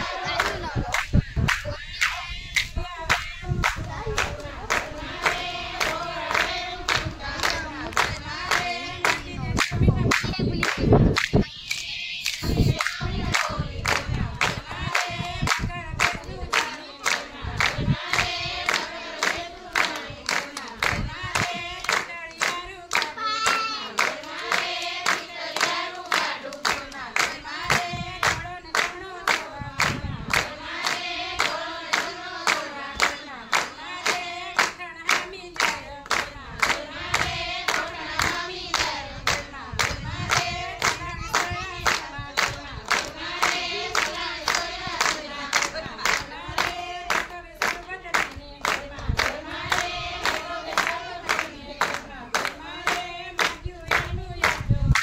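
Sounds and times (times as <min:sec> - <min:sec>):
group singing devotional song: 0:00.0 - 0:55.0
hand-clapping on the beat: 0:00.0 - 0:55.0.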